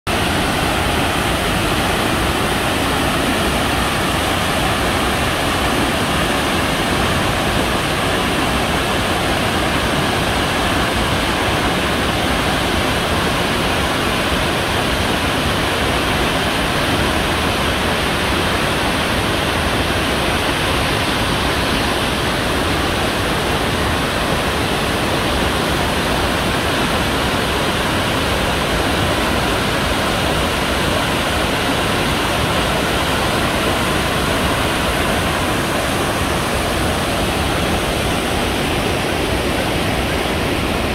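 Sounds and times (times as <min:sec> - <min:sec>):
waterfall roaring: 0:00.1 - 0:40.9.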